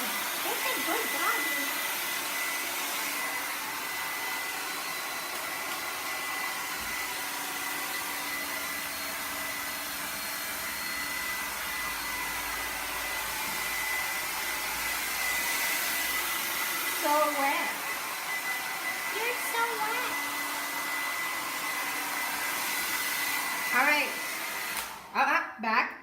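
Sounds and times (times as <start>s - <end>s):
blow dryer running: 0.0s - 25.4s.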